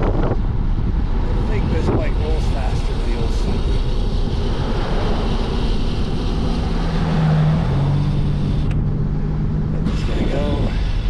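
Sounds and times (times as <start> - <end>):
steady low hum: 0.0 - 11.0
wind rushing over microphone: 0.0 - 11.0.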